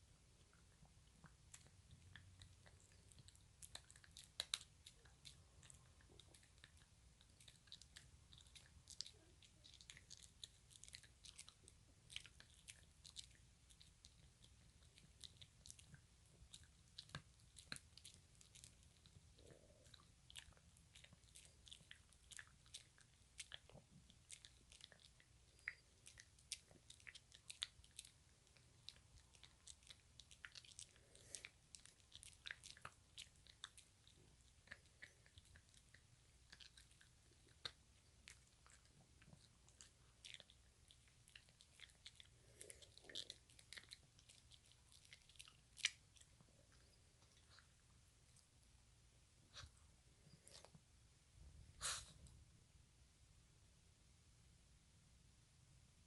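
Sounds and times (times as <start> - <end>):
puppy chewing on a dog chew: 0.0 - 48.6, 49.5 - 50.9.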